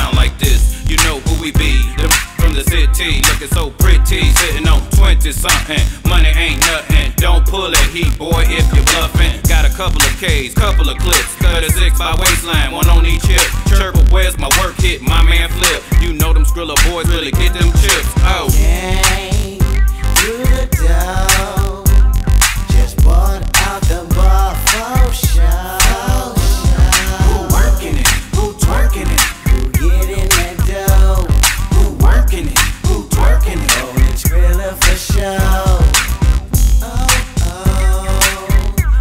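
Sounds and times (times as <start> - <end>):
heavy bass and drum beat: 0.0 - 39.0
person rapping: 0.0 - 39.0.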